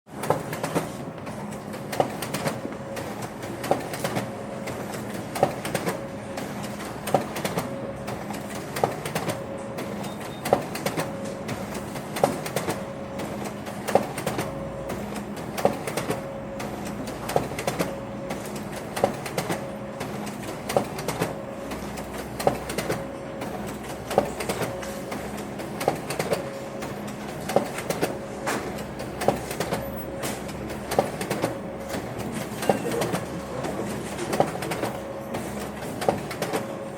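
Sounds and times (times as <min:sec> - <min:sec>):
photocopier clack: 0:00.1 - 0:36.8
photocopier hum: 0:00.1 - 0:36.9.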